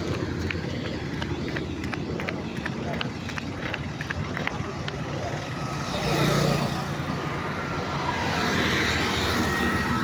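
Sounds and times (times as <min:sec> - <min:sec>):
passing motorcycle engines: 0:00.0 - 0:10.0.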